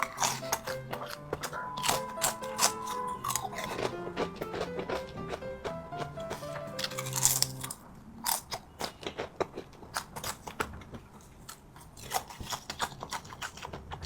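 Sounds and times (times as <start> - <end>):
crunchy food being chewed: 0.0 - 14.0.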